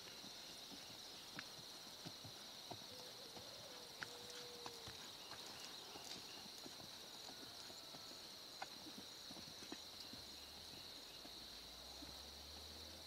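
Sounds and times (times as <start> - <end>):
soft hoofbeats on sand: 0.0 - 13.0.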